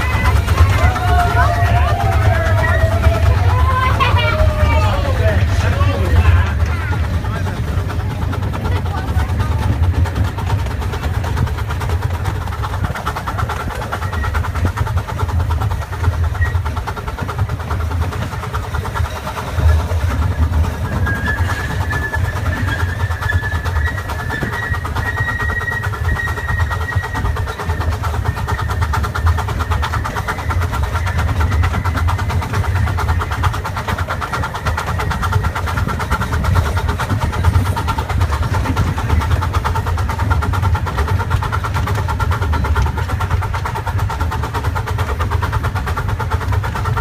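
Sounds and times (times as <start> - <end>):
miniature steam train rumble: 0.0 - 47.0.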